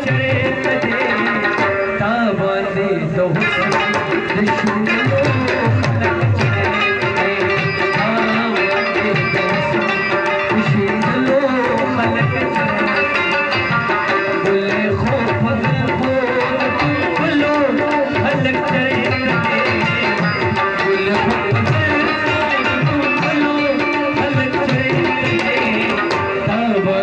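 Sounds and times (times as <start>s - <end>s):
harmonium melody: 0.0s - 27.0s
tabla drums: 0.0s - 27.0s.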